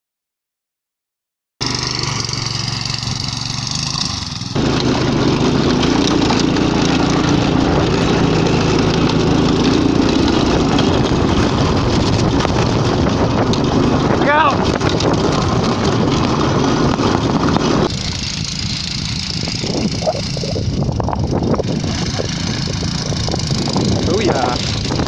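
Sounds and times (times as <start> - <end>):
dense rattle over snow: 1.6 - 25.0
go-kart engine running: 1.6 - 25.0.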